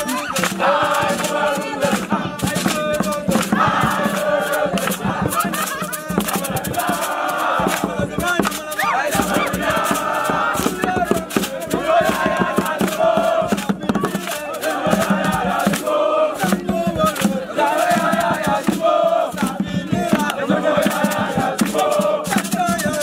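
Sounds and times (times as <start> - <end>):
fast rhythmic percussion: 0.0 - 23.0
group of voices chanting: 0.0 - 23.0.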